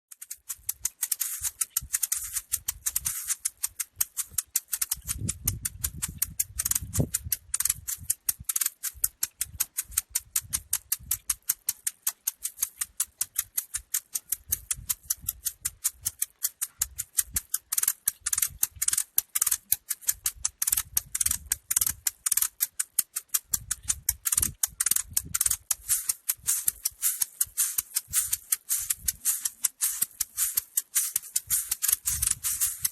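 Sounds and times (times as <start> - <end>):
maracas shaking: 0.1 - 32.9.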